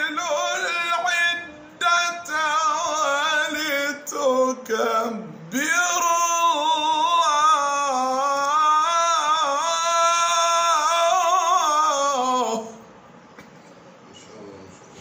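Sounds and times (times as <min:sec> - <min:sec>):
man reciting melodically: 0:00.0 - 0:12.9.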